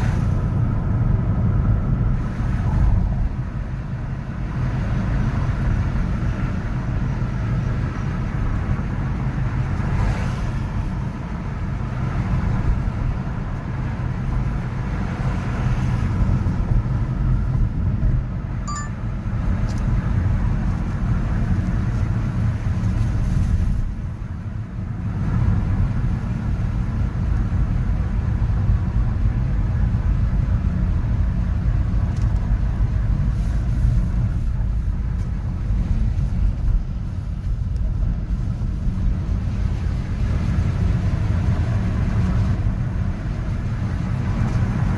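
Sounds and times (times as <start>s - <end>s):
city road traffic rumble: 0.0s - 44.9s
vehicles passing: 0.0s - 44.9s.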